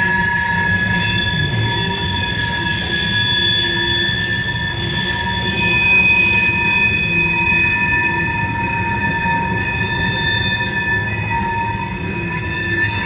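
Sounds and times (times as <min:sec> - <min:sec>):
low rumble of train cars: 0:00.0 - 0:13.0
train wheels squealing: 0:00.0 - 0:13.0.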